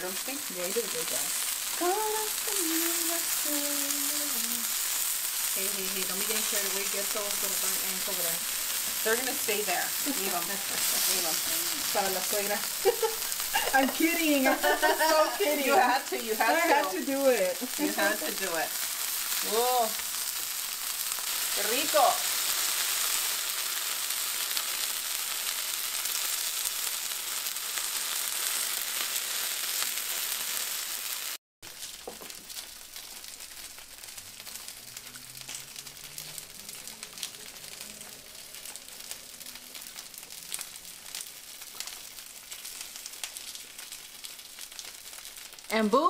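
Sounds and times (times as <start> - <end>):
taco sizzling on a griddle: 0.0 - 46.0.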